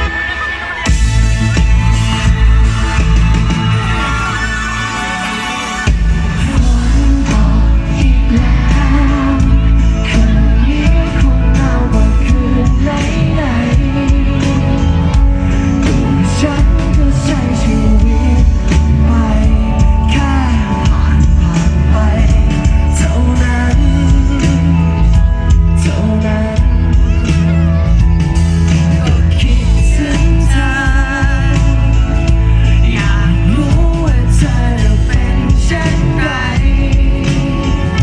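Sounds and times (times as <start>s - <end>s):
lead singer singing: 0.0s - 38.0s
rock band playing: 0.0s - 38.0s.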